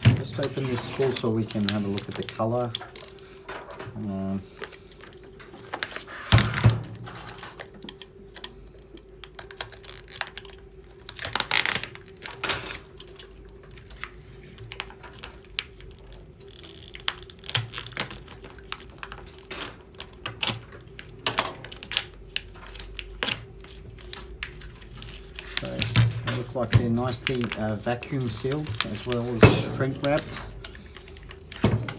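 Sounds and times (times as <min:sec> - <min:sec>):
faint steady hum: 0:00.0 - 0:31.9
plastic wrap rustling: 0:00.0 - 0:31.9
cardboard and plastic clicks: 0:00.1 - 0:03.2, 0:07.2 - 0:31.9.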